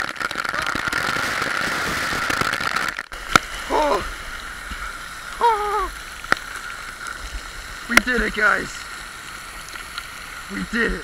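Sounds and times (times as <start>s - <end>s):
fountain spray hissing on water: 0.0s - 11.0s.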